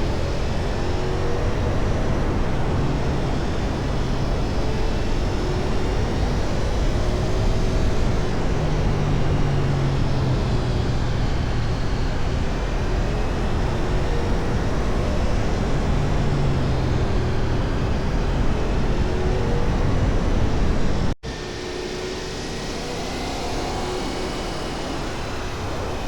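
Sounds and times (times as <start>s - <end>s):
motorcycle engine cruising: 0.0s - 26.0s
wind and road rush: 0.0s - 26.0s.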